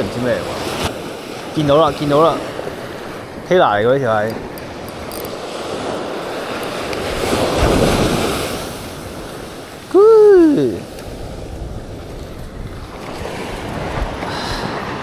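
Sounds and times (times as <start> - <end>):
surf washing on beach: 0.0 - 15.0
wind on microphone: 0.0 - 15.0.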